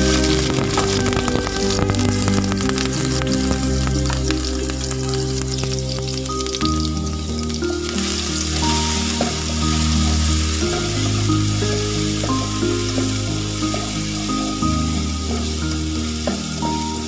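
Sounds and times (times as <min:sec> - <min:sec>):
background music: 0:00.0 - 0:17.0
garlic sizzling in hot oil: 0:00.0 - 0:17.0.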